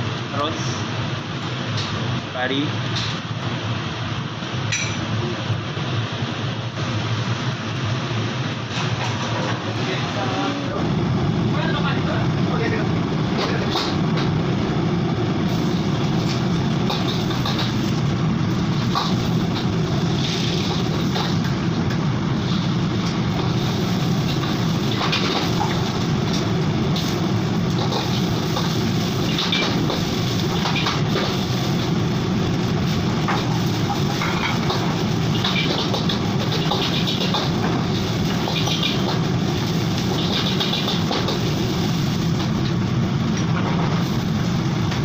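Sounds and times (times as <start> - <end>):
gas wok burner roaring: 0.0 - 45.0.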